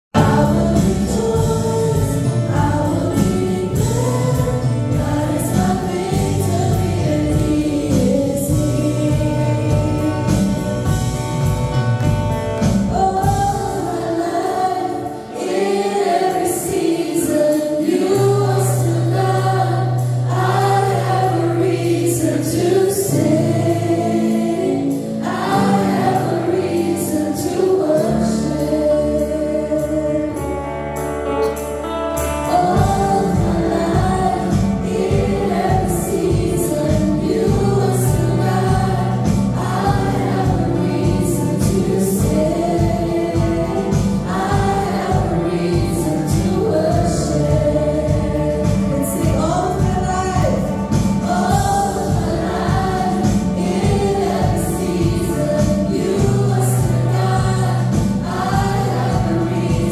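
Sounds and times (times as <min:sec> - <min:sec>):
live band accompaniment: 0:00.1 - 0:59.9
women singing praise song: 0:00.2 - 0:10.4, 0:12.8 - 0:30.3, 0:32.5 - 0:59.9
held bass notes: 0:00.2 - 0:15.9, 0:18.0 - 0:59.9.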